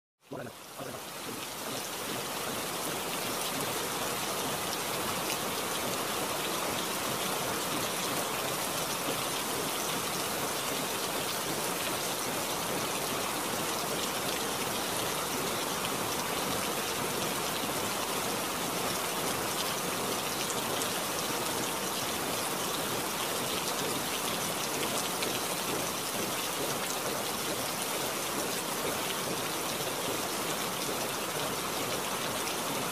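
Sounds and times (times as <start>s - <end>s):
steady rain patter: 0.2s - 32.9s.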